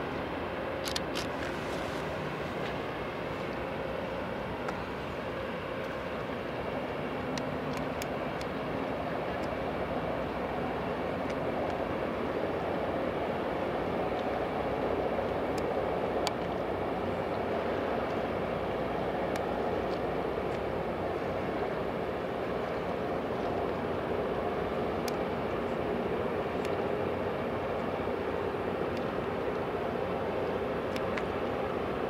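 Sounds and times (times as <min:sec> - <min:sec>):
ship engine drone: 0:00.0 - 0:32.0.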